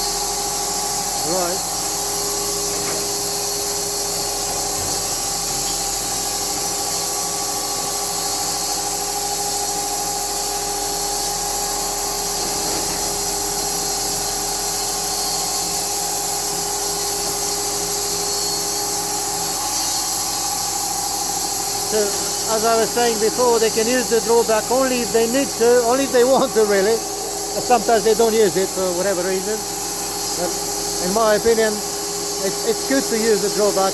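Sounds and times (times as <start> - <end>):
sawmill machine whine: 0.0 - 33.9.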